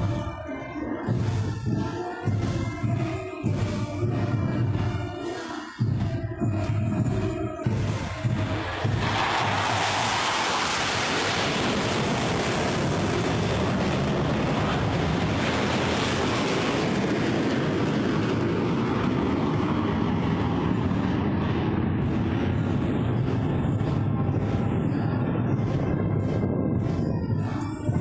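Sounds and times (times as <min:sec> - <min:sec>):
jet aircraft passing over: 0:00.0 - 0:28.0.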